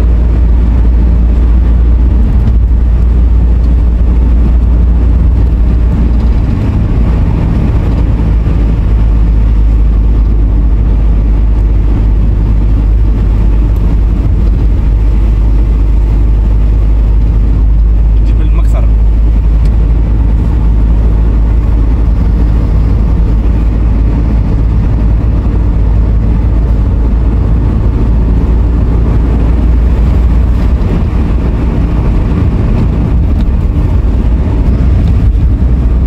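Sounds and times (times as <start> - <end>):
car engine and tyre rumble: 0.0 - 36.0.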